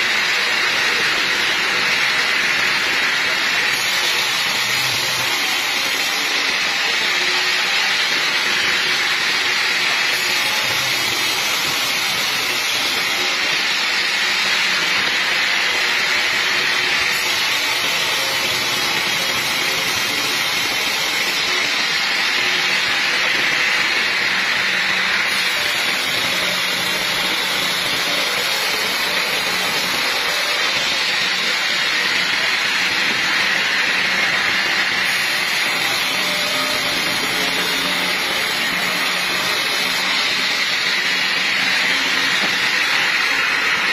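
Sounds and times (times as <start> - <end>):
band saw cutting wood: 0.0 - 43.9.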